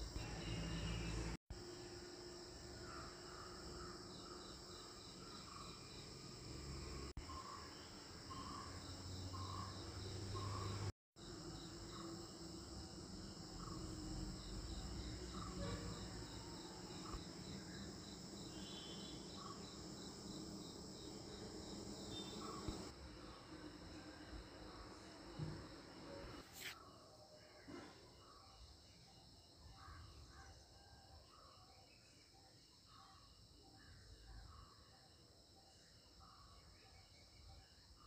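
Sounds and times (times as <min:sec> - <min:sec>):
faint insect chirping: 0:00.0 - 0:38.0.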